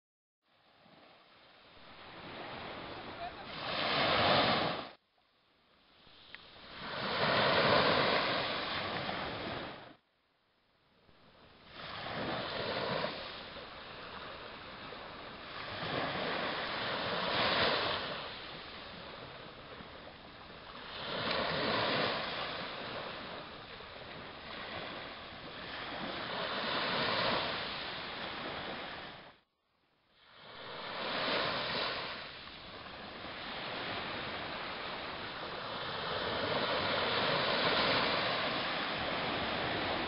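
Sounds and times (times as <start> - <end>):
waves breaking on shore: 0.6 - 5.0, 6.0 - 10.0, 11.2 - 29.4, 30.1 - 40.0.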